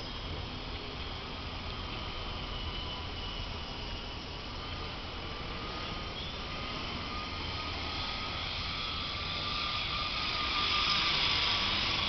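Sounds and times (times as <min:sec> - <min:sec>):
rc helicopter high whine: 0:00.0 - 0:12.0.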